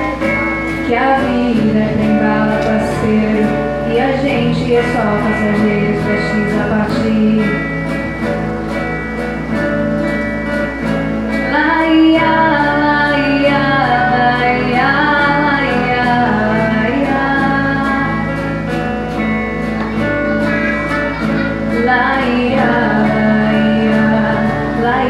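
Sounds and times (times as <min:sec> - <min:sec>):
person singing wordless melody: 0:00.0 - 0:08.0, 0:11.4 - 0:18.5, 0:19.9 - 0:25.0
acoustic guitars playing pop ballad: 0:00.0 - 0:25.0.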